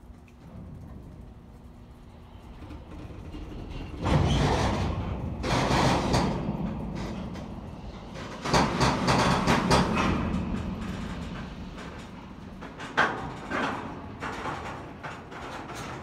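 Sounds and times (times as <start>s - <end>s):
freight cars rumbling on rails: 1.2s - 16.0s.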